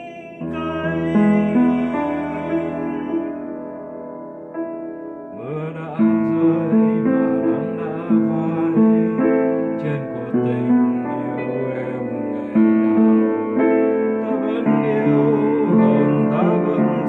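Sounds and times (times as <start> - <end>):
slow piano playing: 0.0 - 17.0.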